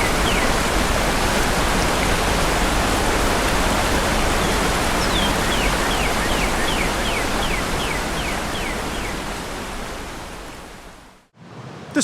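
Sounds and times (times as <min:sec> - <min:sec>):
waterfall roar: 0:00.0 - 0:10.8
creek rapids rushing: 0:00.0 - 0:12.0.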